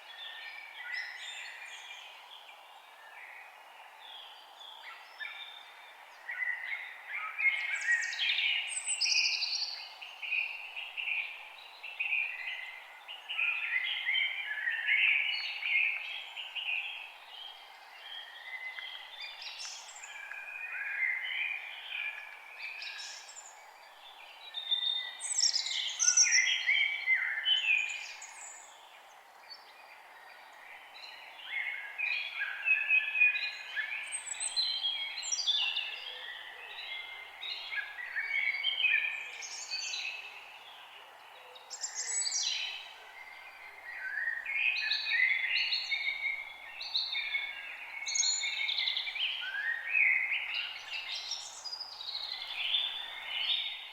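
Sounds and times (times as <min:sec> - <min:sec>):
birds singing: 0:00.0 - 0:53.9
faint steady hiss: 0:00.0 - 0:53.9.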